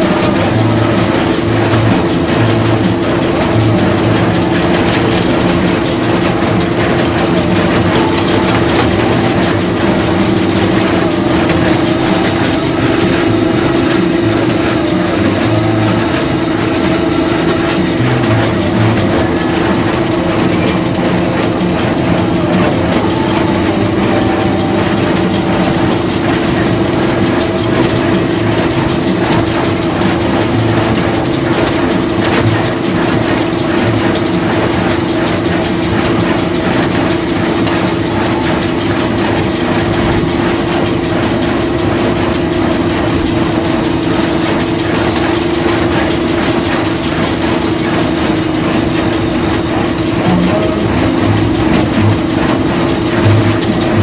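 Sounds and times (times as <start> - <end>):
farm machinery engine drone: 0.0 - 54.0
mechanical clatter of gears: 0.0 - 54.0.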